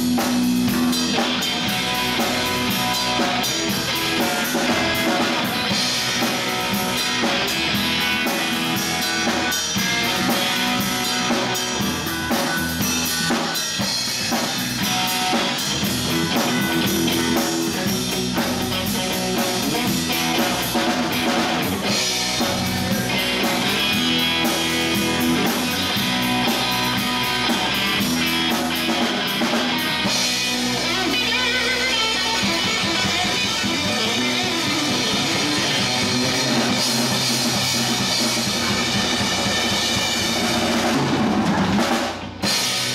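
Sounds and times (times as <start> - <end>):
drum kit: 0.0 - 42.9
electric bass: 0.0 - 42.9
electric guitar: 0.0 - 42.9.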